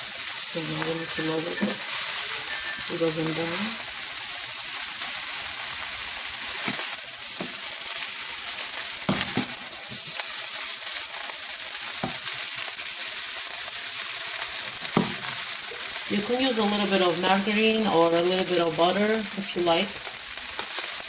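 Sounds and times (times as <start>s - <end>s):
rice sizzling in oil: 0.0s - 21.0s.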